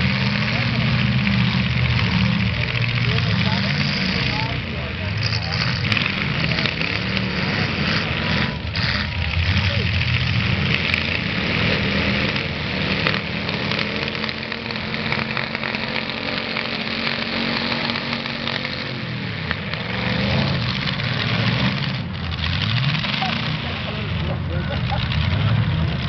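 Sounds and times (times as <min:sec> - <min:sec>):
car engines running rough: 0:00.0 - 0:26.0.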